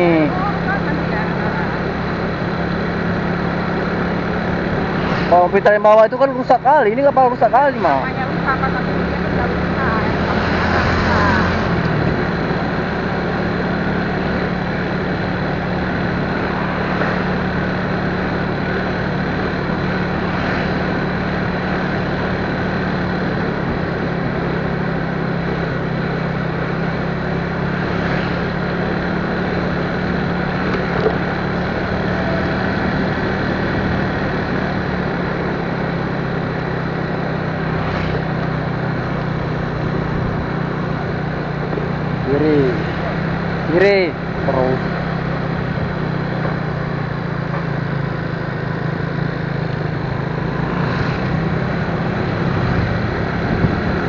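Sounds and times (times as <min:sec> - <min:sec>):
road and wind noise: 0:00.0 - 0:54.0
vehicle engine hum: 0:00.0 - 0:54.0.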